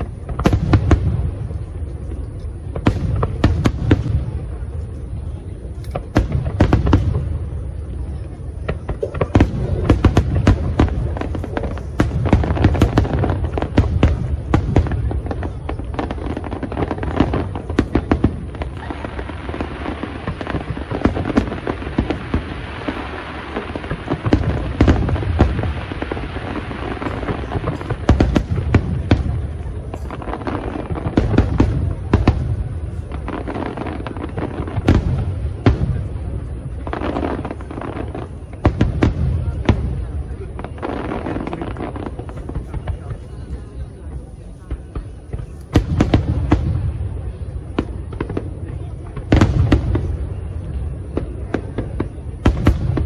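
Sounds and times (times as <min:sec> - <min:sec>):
firework crackling: 0:00.0 - 0:53.0.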